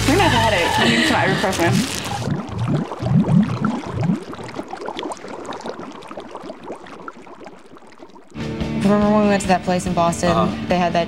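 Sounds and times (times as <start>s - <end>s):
deep gurgles: 0.0s - 9.5s
water churning and bubbling: 0.0s - 10.2s.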